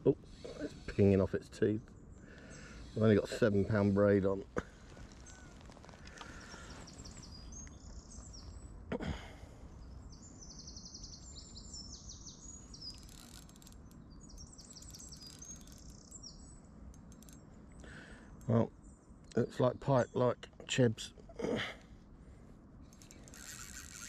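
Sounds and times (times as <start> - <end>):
small birds chirping: 0.0 - 21.2
outdoor background noise: 0.0 - 24.0.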